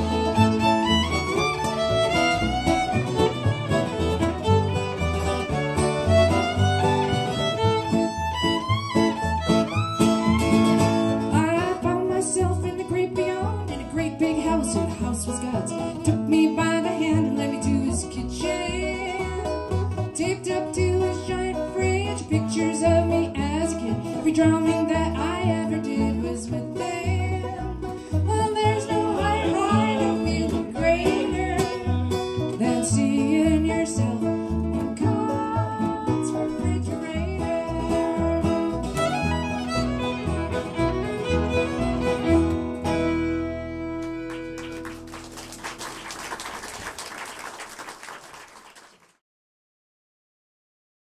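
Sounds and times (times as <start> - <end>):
fiddle with sliding notes: 0.0 - 45.2
banjo: 0.0 - 45.8
plucked guitar: 0.0 - 45.8
upright bass: 0.0 - 46.9.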